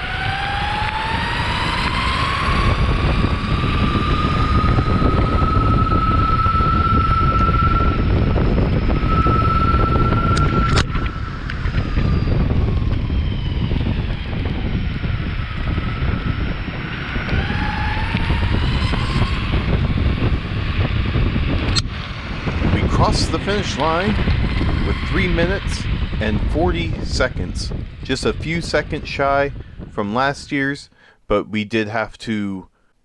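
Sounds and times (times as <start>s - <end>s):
electric longboard motors whining: 0.0s - 30.0s
wind on microphone: 0.0s - 30.8s.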